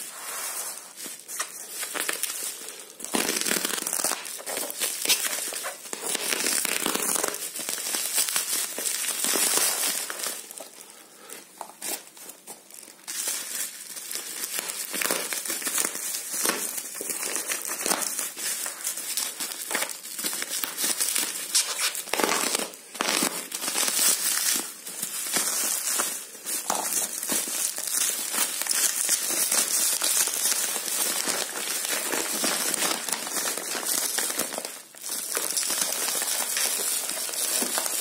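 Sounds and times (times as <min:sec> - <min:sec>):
bubble wrap crinkling: 0:00.0 - 0:38.0.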